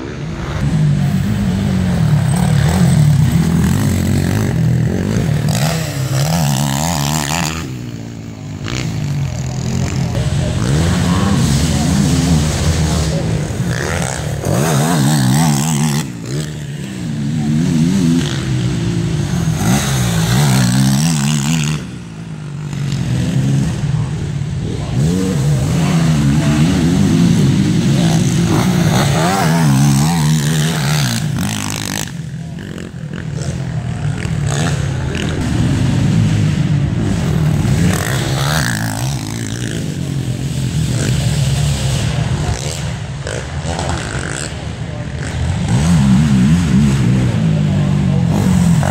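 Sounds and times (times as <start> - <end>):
quad engines revving: 0.0 - 48.9.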